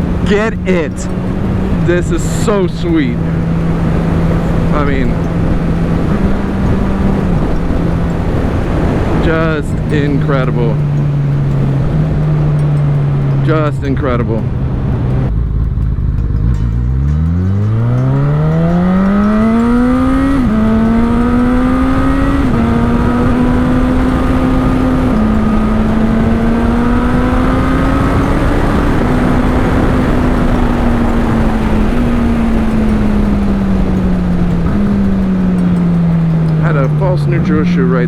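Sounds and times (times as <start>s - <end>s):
motorcycle engine accelerating: 0.0s - 38.0s
wind rush: 0.0s - 38.0s.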